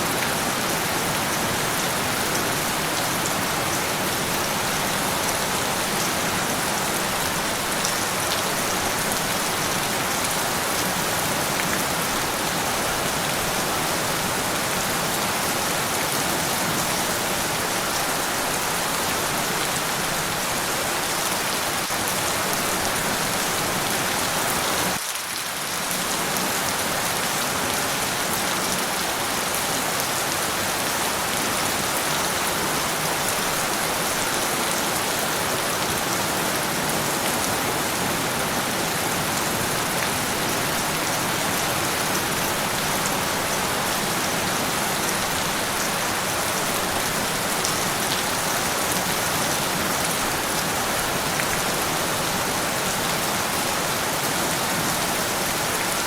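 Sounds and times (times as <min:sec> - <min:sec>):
dense rain falling: 0:00.0 - 0:56.0.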